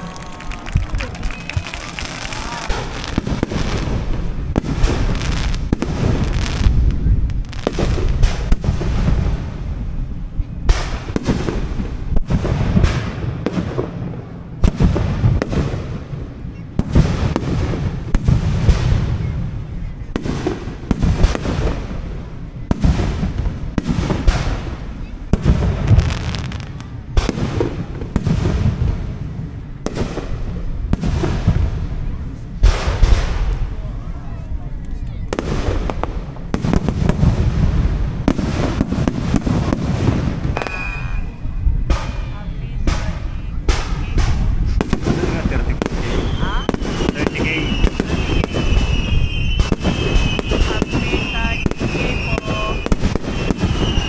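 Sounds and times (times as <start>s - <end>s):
fireworks bursting with booms: 0.0s - 54.0s.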